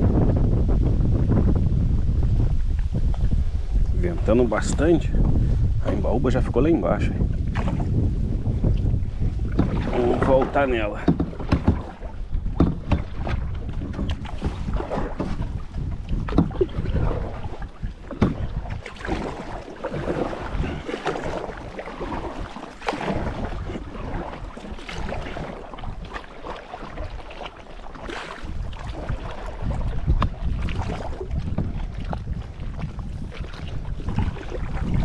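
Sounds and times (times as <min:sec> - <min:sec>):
wind buffeting microphone: 0:00.0 - 0:35.0
paddle splashes and knocks: 0:01.2 - 0:35.0.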